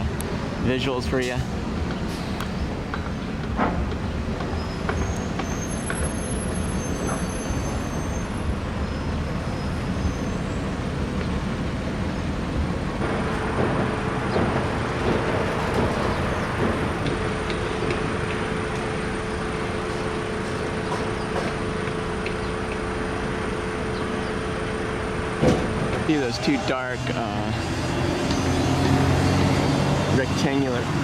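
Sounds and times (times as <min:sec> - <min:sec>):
large vehicle engine hum: 0:00.0 - 0:31.0
road traffic noise: 0:00.0 - 0:31.0.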